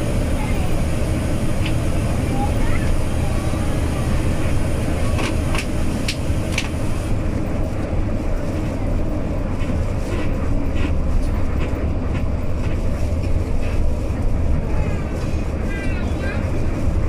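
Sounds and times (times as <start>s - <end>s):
bus engine and tyres rumbling: 0.0s - 17.0s.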